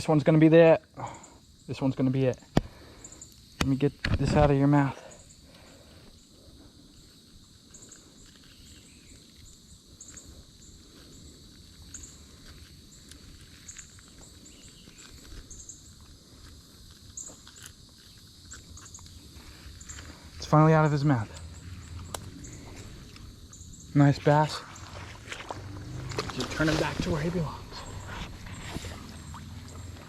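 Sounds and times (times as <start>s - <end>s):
insects buzzing: 0.0s - 30.0s
insects chirping: 0.0s - 30.0s.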